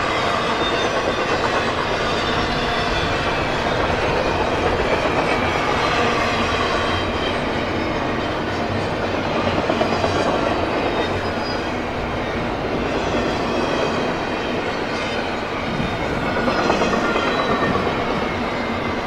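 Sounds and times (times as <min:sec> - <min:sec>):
freight train passing: 0:00.0 - 0:19.0
train wheel clatter: 0:00.0 - 0:19.0.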